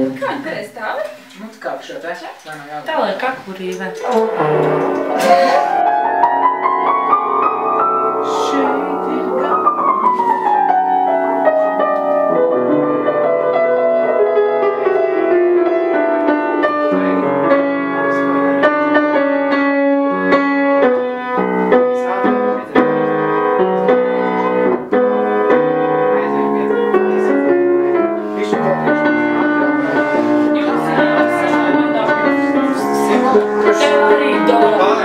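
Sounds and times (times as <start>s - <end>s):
upright piano playing: 0.0s - 35.0s.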